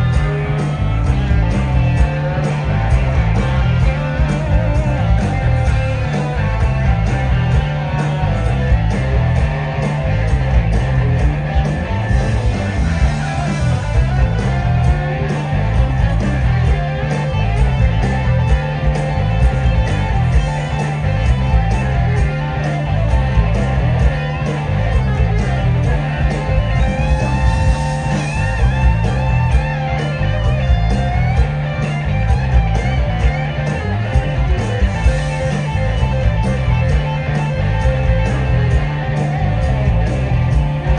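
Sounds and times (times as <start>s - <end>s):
bass guitar: 0.0s - 40.9s
drum beat: 0.0s - 40.9s
electric guitar lead: 0.0s - 40.9s.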